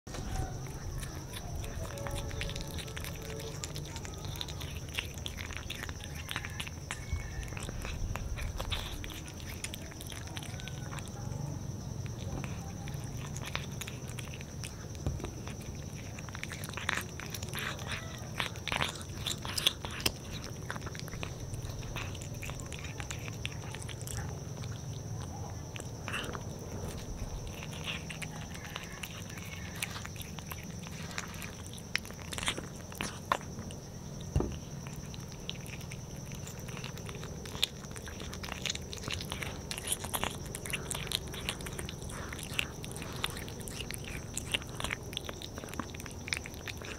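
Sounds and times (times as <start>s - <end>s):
cat chewing and biting: 0.1s - 46.9s.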